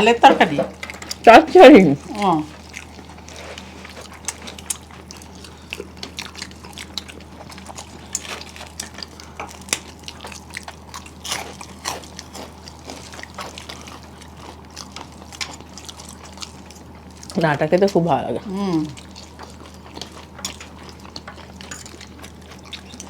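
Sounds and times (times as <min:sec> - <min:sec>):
steady low hum: 0:00.0 - 0:23.0
wet chewing sounds: 0:00.7 - 0:23.0.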